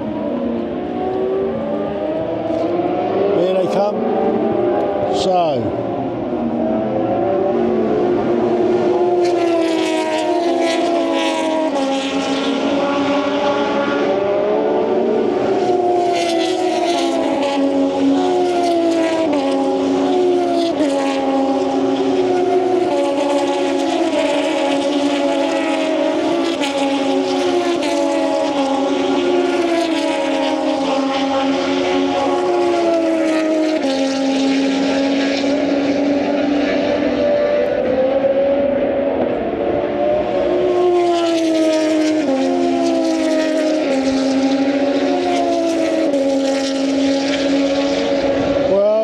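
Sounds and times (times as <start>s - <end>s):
racing motorcycles passing: 0.0s - 49.0s.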